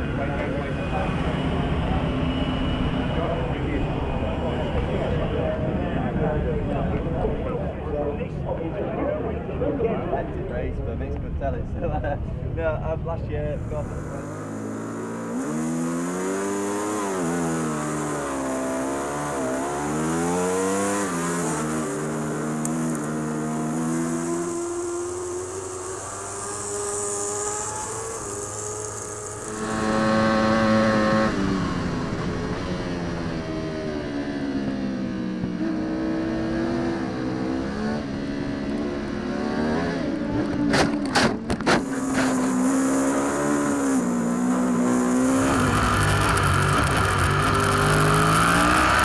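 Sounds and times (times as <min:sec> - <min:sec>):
motorcycle engine accelerating with upshifts: 0:00.0 - 0:07.9, 0:13.6 - 0:49.0.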